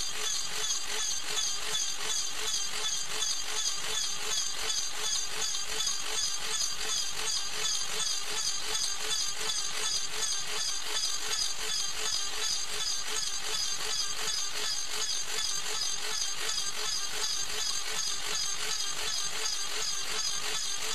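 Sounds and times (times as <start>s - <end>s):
mill motors running: 0.0s - 20.9s
pulsing metal cutting noise: 0.0s - 20.9s.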